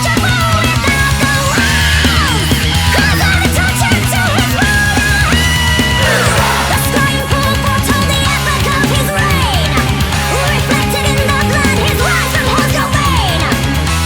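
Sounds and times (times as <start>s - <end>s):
steady bass: 0.5s - 14.0s.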